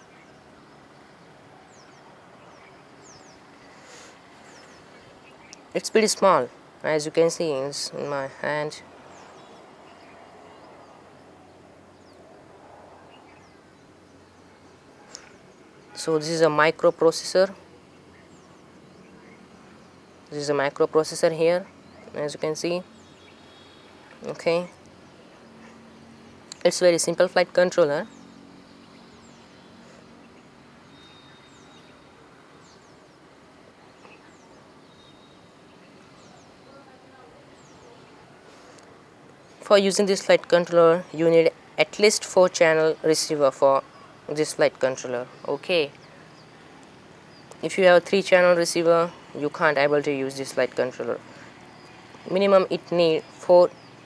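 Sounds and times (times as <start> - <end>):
background hiss: 0.0 - 54.0
birds chirping: 0.0 - 54.0.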